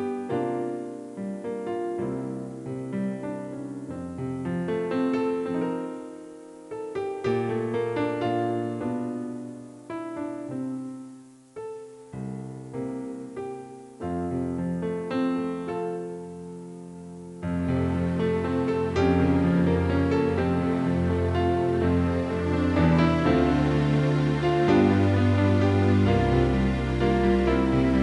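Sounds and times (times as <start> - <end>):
gentle piano piece: 0.0 - 28.0.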